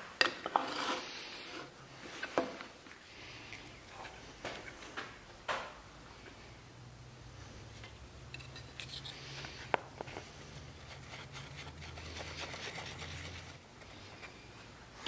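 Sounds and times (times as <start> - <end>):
soft rubbing and scraping: 0.4 - 5.0, 7.4 - 15.0.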